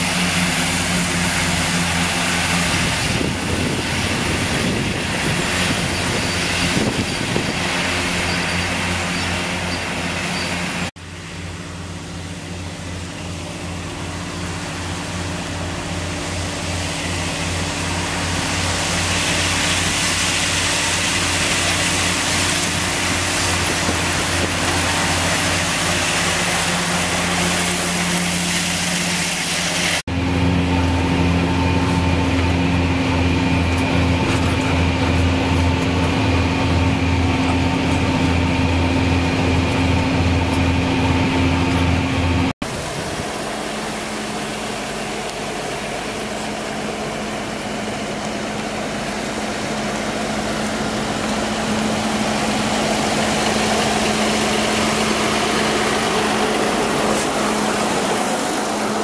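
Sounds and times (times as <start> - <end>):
mowers cutting grass: 0.0 - 59.0
tractor diesel engine: 0.0 - 59.0.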